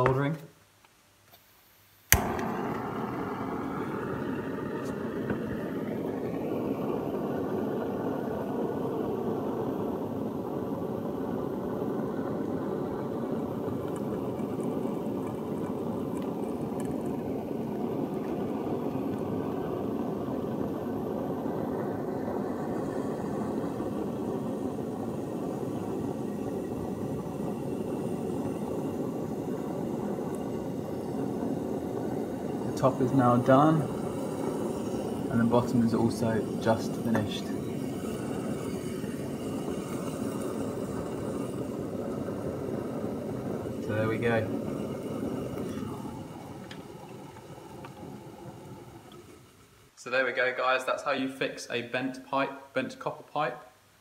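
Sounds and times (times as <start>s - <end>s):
gas blowtorch burning: 0.0s - 0.2s, 1.4s - 52.4s.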